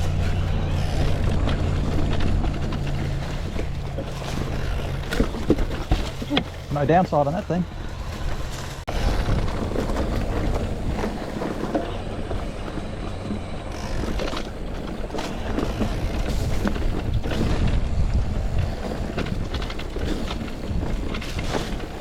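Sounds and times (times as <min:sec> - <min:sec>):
bike knocking and rattling: 0:00.0 - 0:22.0
tyre and wind rumble: 0:00.0 - 0:22.0.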